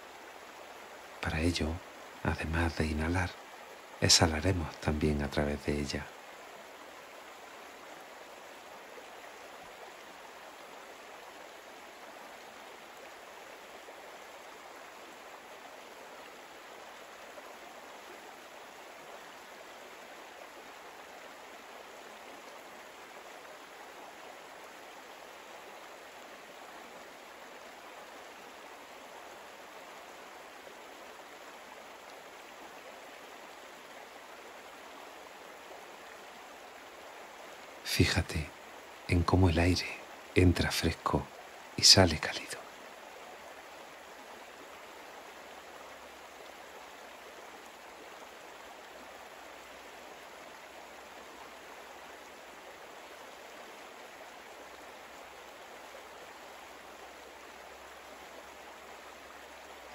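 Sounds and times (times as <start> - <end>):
flowing water: 0.0 - 59.9.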